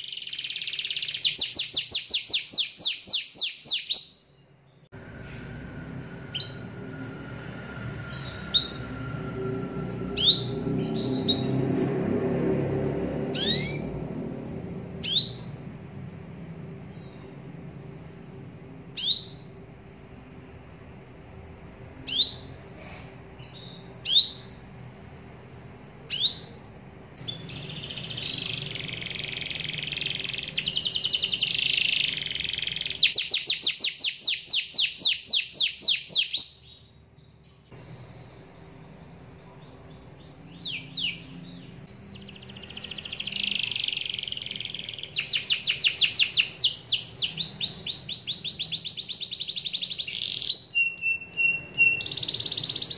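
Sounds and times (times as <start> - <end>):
canary singing: 0.0 - 4.9, 6.1 - 11.8, 13.3 - 14.3, 15.0 - 15.8, 16.7 - 17.5, 18.9 - 20.3, 22.0 - 22.7, 23.4 - 24.9, 26.0 - 52.9.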